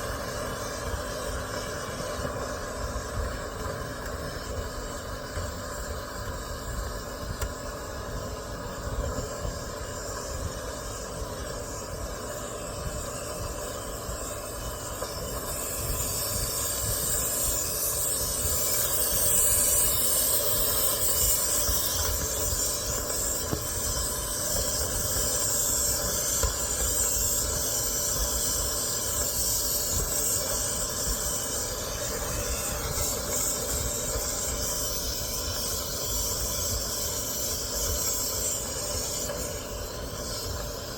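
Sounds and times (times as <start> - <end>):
compressed air hissing: 0.0 - 40.9.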